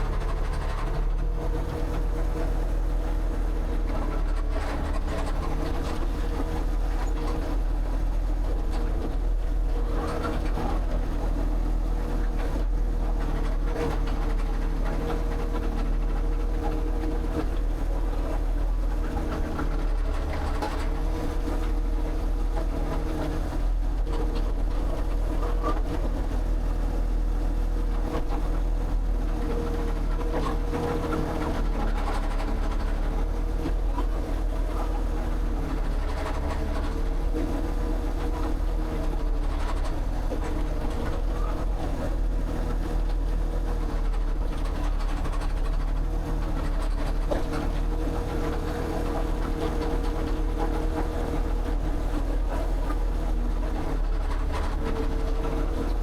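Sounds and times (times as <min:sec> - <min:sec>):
engine droning and humming: 0:00.0 - 0:56.0.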